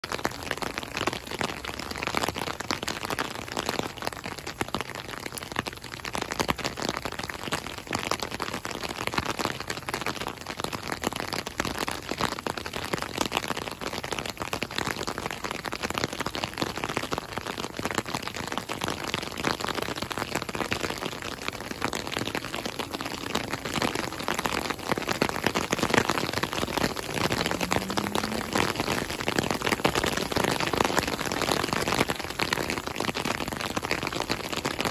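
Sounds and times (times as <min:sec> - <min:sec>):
rain pattering: 0:00.0 - 0:34.9.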